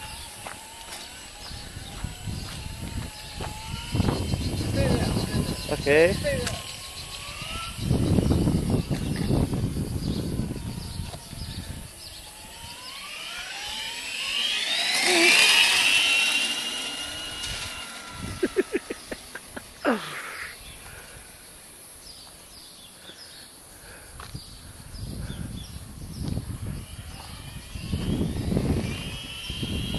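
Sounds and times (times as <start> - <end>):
electric motor whining: 0.0 - 21.1, 25.0 - 29.9.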